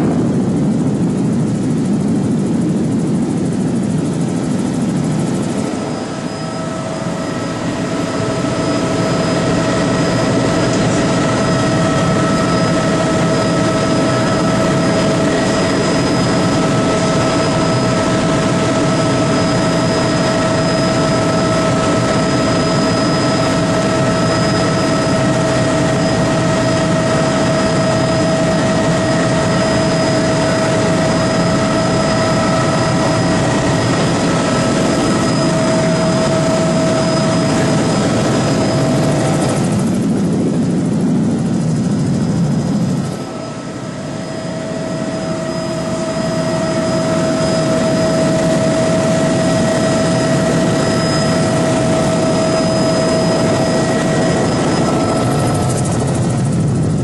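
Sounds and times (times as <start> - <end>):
aircraft engine rumble in cabin: 0.0 - 57.0.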